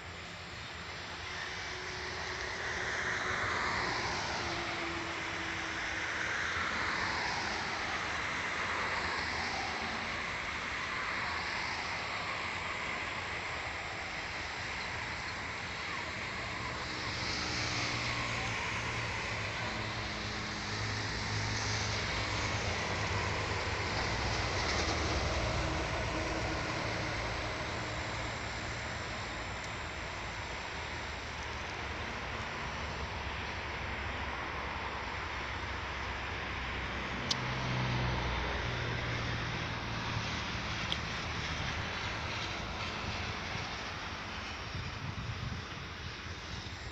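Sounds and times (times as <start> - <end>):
train rumbling and rattling: 0.0 - 35.6, 37.7 - 46.9.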